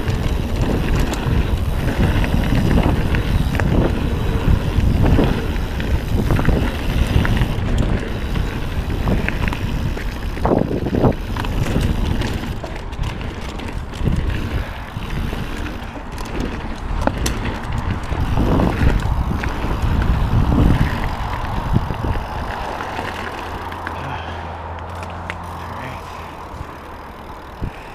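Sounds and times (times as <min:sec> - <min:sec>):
bike rattling and knocking: 0:00.0 - 0:27.9
tyres rolling over dirt: 0:00.0 - 0:27.9
wind buffeting microphone: 0:00.0 - 0:27.9.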